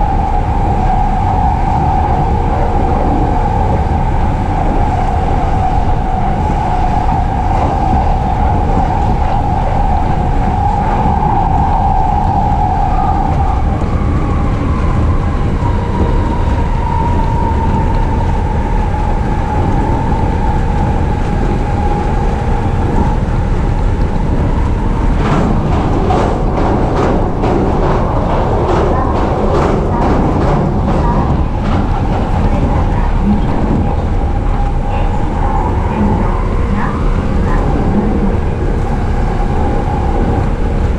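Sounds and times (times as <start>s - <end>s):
train rumble and whine: 0.0s - 40.9s
train wheels clacking: 0.0s - 40.9s.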